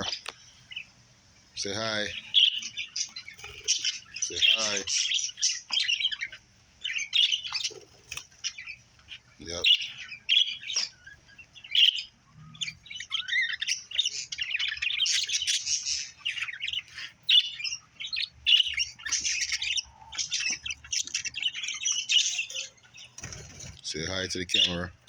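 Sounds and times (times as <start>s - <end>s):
budgerigars chirping: 0.0s - 25.0s
sharp bird calls: 0.0s - 25.0s.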